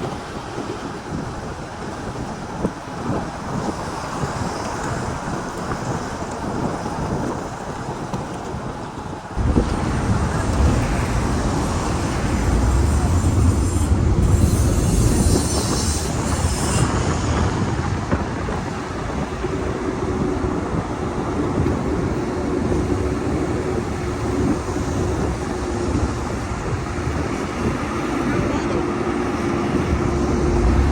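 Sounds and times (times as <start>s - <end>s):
car driving on road: 0.0s - 30.9s.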